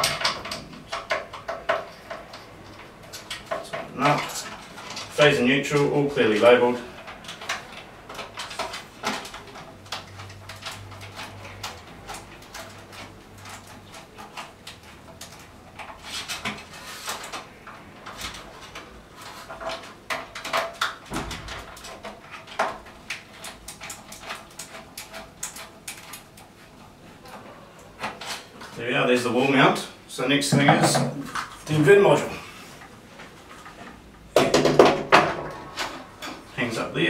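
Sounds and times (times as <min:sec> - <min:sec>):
wires being handled: 0:00.0 - 0:37.0.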